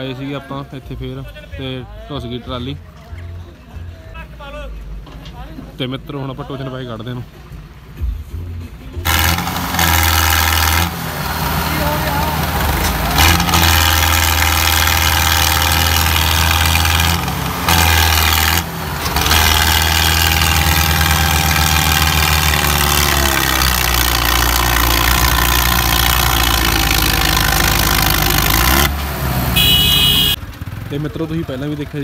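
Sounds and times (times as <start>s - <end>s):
tractor diesel engines under load: 0.0s - 32.0s.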